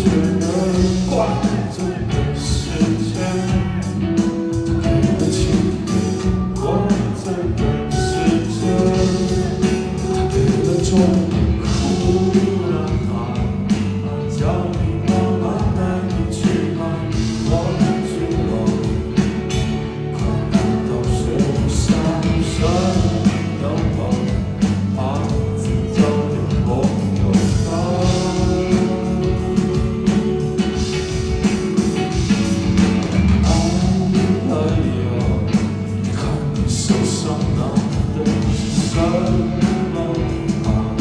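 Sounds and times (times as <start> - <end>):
person singing: 0.0 - 30.2, 33.4 - 41.0
rock band playing live: 0.0 - 41.0.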